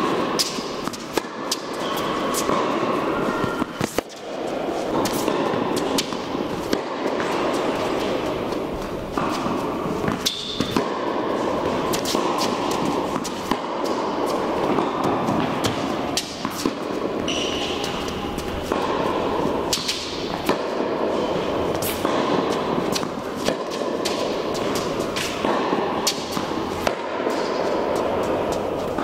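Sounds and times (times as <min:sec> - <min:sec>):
tennis ball struck by racket: 0:00.0 - 0:08.4, 0:09.0 - 0:29.0
ball bouncing on hard court: 0:00.0 - 0:29.0
steady background noise: 0:00.0 - 0:29.0.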